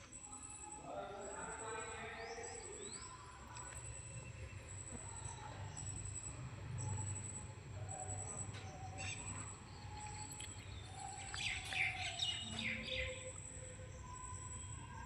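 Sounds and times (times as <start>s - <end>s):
distant voices: 0.0s - 15.0s.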